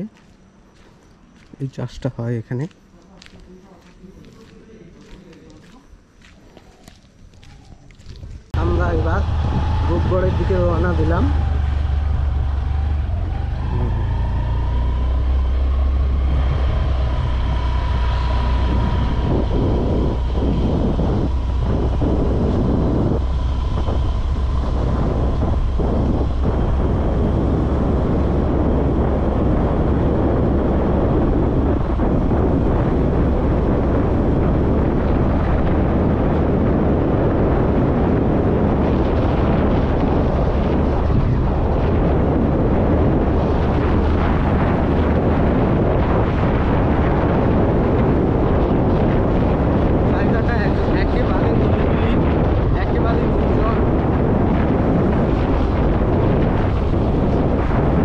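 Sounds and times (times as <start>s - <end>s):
road and wind noise: 0.0s - 58.0s
vehicle engine drone with whine: 7.3s - 58.0s.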